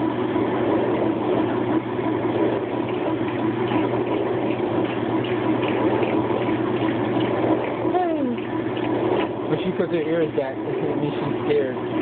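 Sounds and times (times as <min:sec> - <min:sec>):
washing machine motor hum: 0:00.0 - 0:12.0
water rushing through drum: 0:00.0 - 0:12.0.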